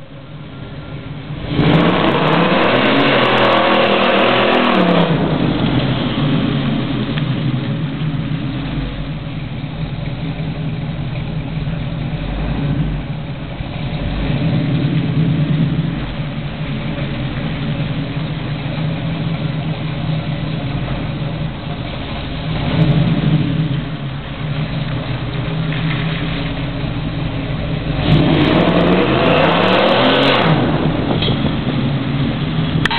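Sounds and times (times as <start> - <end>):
car engine rumbling at low revs: 0.0 - 32.9.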